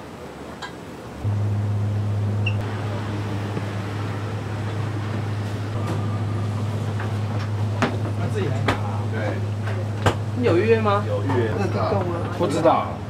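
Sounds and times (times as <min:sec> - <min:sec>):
gas burner humming: 0:00.6 - 0:13.0.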